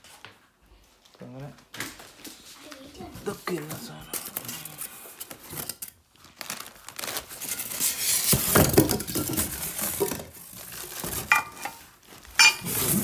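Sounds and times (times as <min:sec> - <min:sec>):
bubble wrap crinkling: 0:01.9 - 0:13.0.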